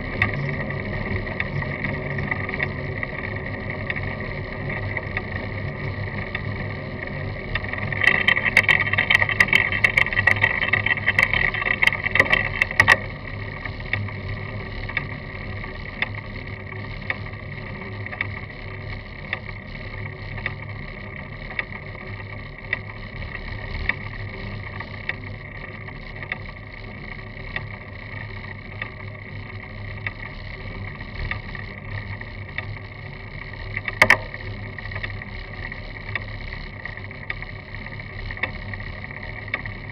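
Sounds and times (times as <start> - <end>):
bicycle tyre road noise: 0.0 - 39.9.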